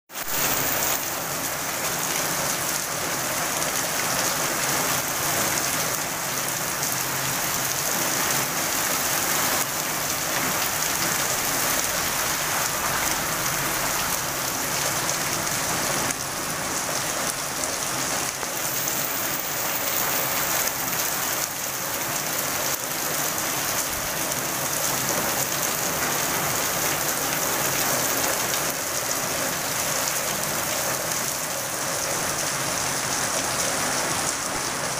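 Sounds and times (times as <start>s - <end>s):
rain on wet pavement: 0.1s - 34.9s.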